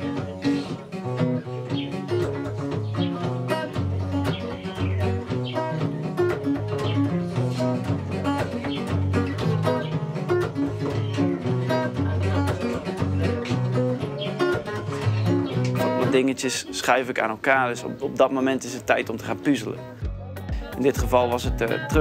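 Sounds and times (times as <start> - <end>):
plucked string instrument melody: 0.0 - 22.0.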